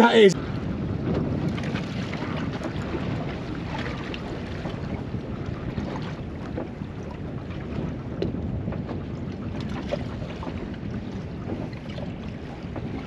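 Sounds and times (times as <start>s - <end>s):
water lapping against boat hull: 0.0s - 13.0s
wind buffeting microphone: 0.0s - 13.0s.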